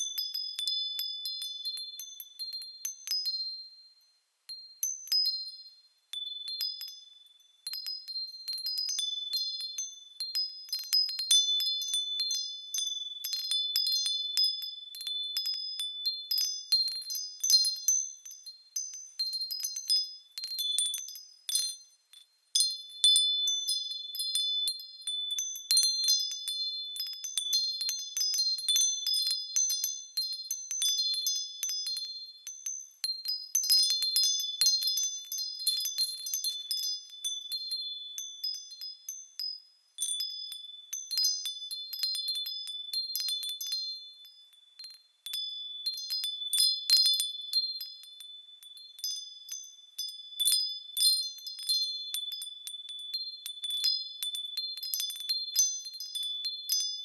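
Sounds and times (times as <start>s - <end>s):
small high-pitched bells ringing: 0.0s - 57.0s.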